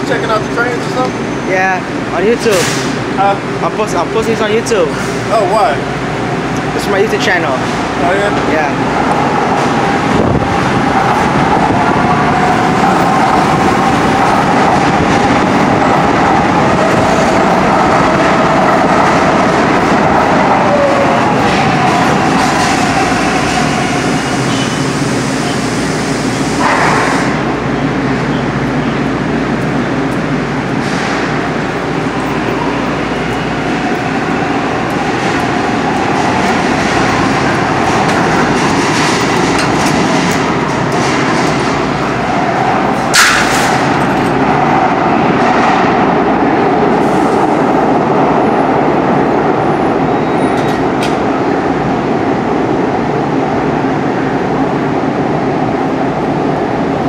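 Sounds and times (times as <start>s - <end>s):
train rumbling in a tunnel: 0.0s - 57.0s.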